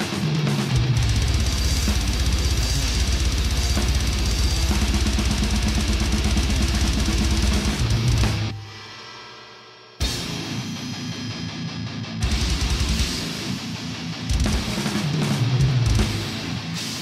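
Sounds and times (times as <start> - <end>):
fast metal drumming: 0.0 - 9.1, 10.0 - 17.0.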